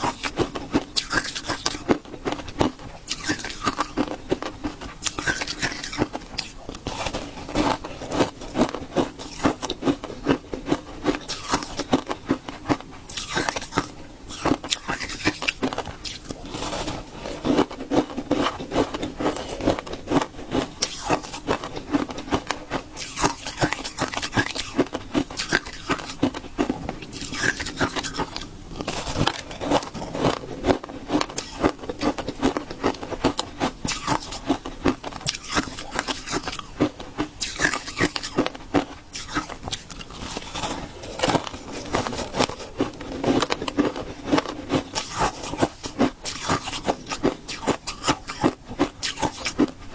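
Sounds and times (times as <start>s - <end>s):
person chewing shaved ice: 0.0s - 49.9s.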